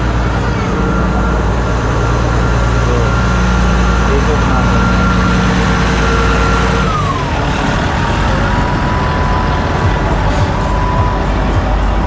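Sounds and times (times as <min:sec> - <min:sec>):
diesel railcar engine drone: 0:00.0 - 0:12.0
high whine falling in pitch: 0:00.0 - 0:12.0.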